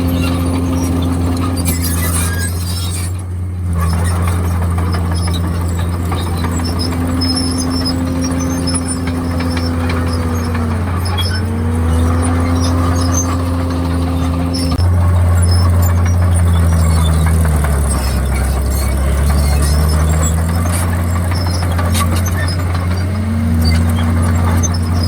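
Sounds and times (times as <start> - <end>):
bulldozer diesel engine running: 0.0 - 25.0
high squeaks: 0.0 - 25.0.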